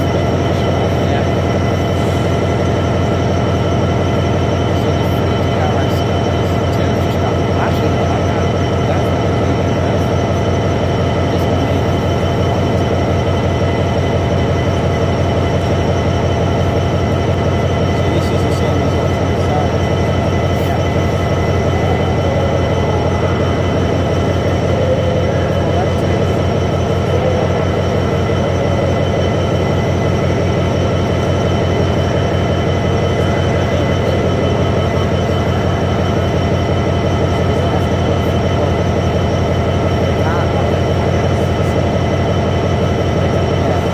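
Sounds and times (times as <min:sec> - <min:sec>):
diesel locomotive engine idling: 0:00.0 - 0:43.9
faint steady whine: 0:00.0 - 0:43.9.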